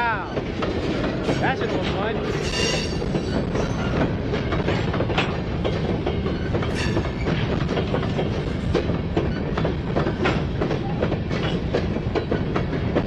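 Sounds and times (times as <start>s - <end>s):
freight train rumble: 0.0s - 13.0s
wheels clacking over rail joints: 0.0s - 13.0s.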